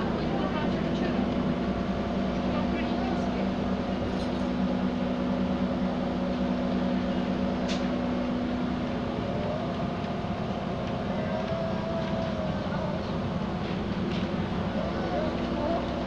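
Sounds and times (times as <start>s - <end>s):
bus engine and tyres droning: 0.0s - 16.0s.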